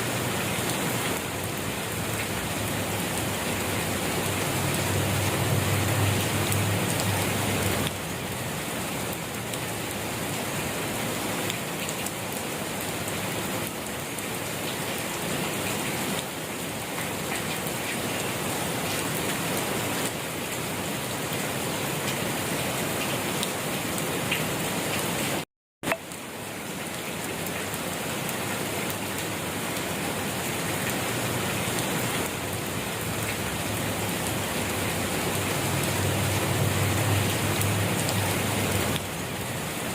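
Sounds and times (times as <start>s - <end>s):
steady rain hiss: 0.0s - 25.4s, 26.0s - 39.9s.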